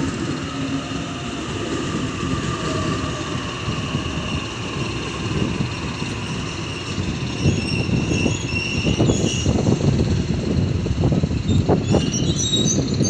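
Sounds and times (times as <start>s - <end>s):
electric train whine: 0.0s - 13.0s
train wheels rumbling on rail: 0.0s - 13.0s.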